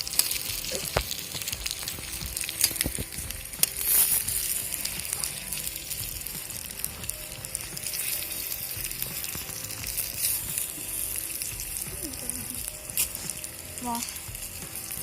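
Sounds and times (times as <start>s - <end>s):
potatoes sizzling in a pot: 0.0s - 15.0s.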